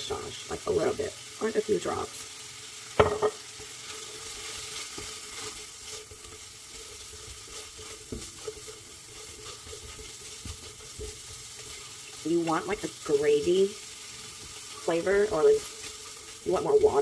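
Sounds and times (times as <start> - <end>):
shrimp sizzling in a wok: 0.0 - 17.0
spatula scraping a wok: 3.3 - 17.0.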